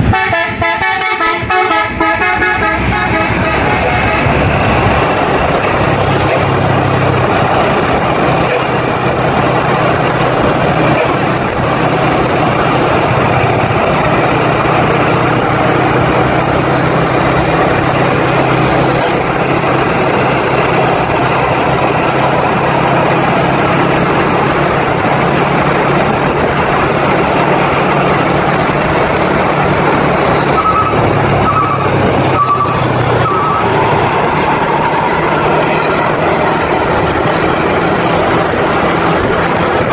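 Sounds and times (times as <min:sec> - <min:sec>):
heavy road traffic passing: 0:00.0 - 0:39.9.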